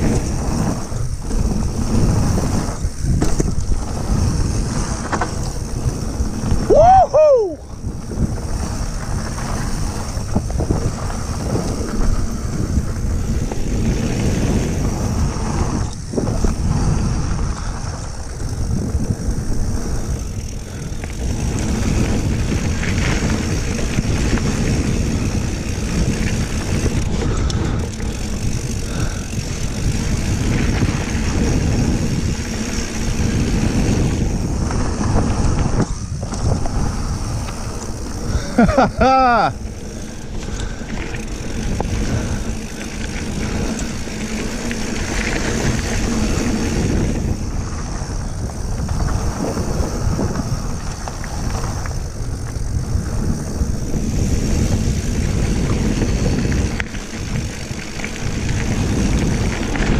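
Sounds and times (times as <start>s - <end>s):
bike tyre roar on dirt: 0.0s - 59.9s
wind rushing over microphone: 0.0s - 59.9s.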